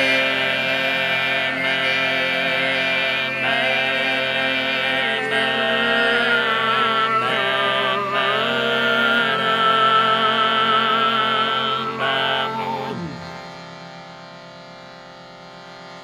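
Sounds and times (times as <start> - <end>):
overtone singing: 0.0 - 14.0.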